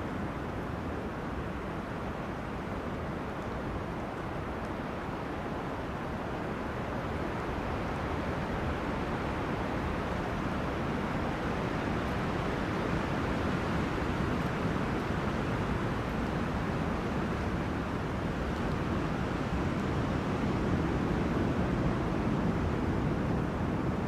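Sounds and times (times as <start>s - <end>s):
wind through trees: 0.0s - 24.0s.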